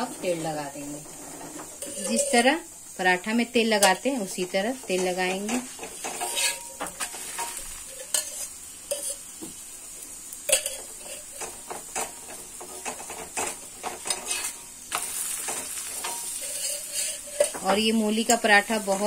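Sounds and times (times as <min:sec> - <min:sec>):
spatula scraping and tapping a griddle: 0:00.0 - 0:02.9, 0:03.6 - 0:09.7, 0:10.4 - 0:19.0
oil sizzling: 0:00.0 - 0:19.0.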